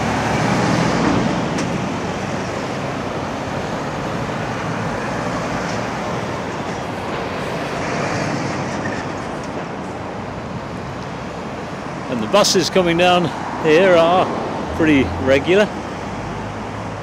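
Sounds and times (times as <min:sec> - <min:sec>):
cars driving past: 0:00.0 - 0:17.0
heavy lorries driving past: 0:00.0 - 0:17.0.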